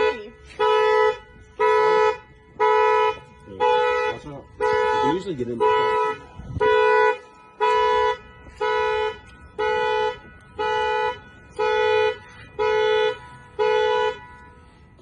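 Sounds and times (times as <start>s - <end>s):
car horn honking: 0.0s - 14.5s.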